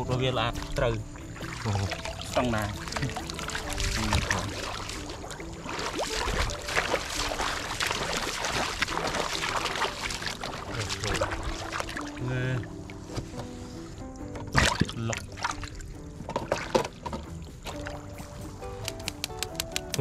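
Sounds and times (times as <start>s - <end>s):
water splashing and sloshing: 0.0s - 19.2s
background music: 0.0s - 20.0s.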